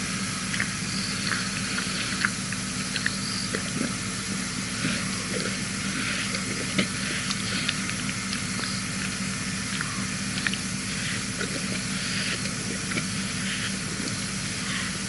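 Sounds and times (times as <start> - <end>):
low hum: 0.0 - 15.0
lion licking fur: 0.4 - 14.6.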